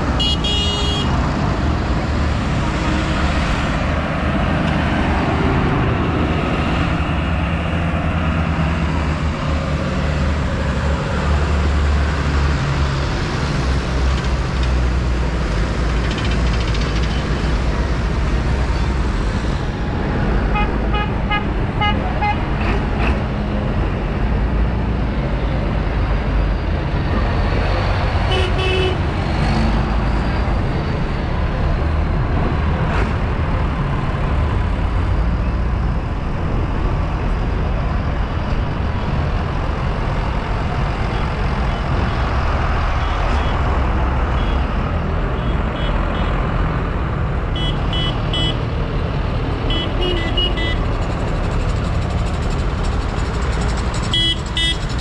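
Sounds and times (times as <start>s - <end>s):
tractor engine rumbling: 0.0s - 55.0s.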